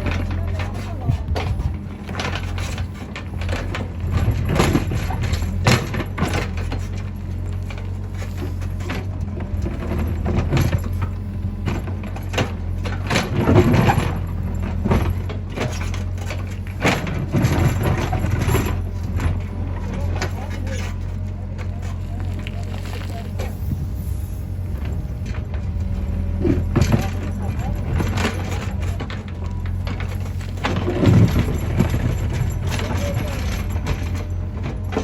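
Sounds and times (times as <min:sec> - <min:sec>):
knocks and clanks of machine: 0:00.0 - 0:21.7, 0:24.8 - 0:35.0
diesel engine running: 0:00.0 - 0:35.0.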